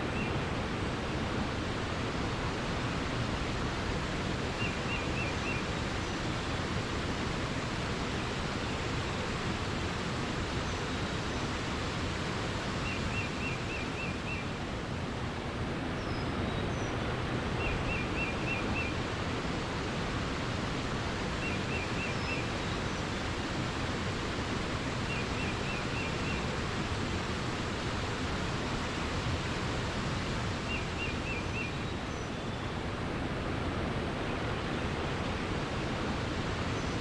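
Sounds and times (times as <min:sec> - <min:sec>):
flowing water: 0:00.0 - 0:37.0.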